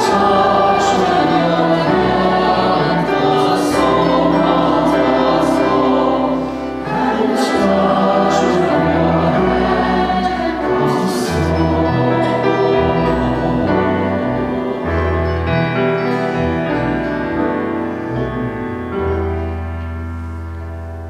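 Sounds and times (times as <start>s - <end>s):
choir singing a hymn: 0.0s - 19.2s
grand piano: 0.0s - 21.0s.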